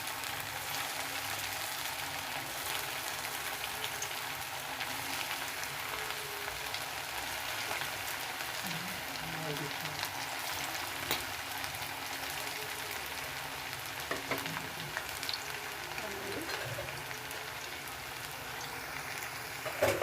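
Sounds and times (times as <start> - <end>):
oil sizzling with crackles: 0.0 - 20.0.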